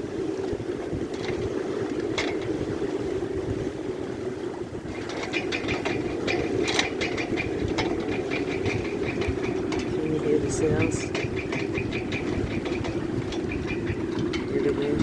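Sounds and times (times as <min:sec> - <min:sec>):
sails flapping and rattling: 0:00.0 - 0:15.0
wind blowing: 0:00.0 - 0:15.0.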